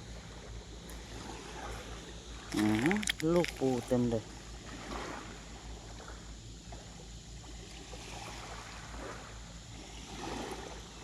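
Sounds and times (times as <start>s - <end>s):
small waves washing onto beach: 0.0s - 11.0s.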